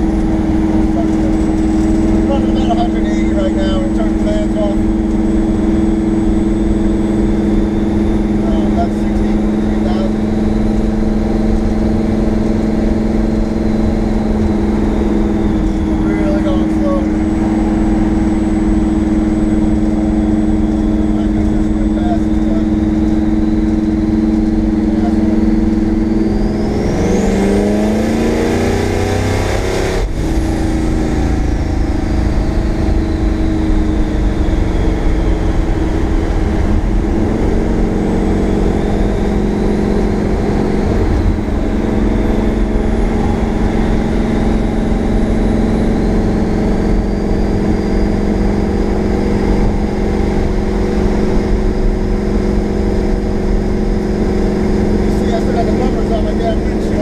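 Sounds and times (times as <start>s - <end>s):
car engine revving: 0.0s - 57.0s
high turbo whistle: 1.9s - 57.0s.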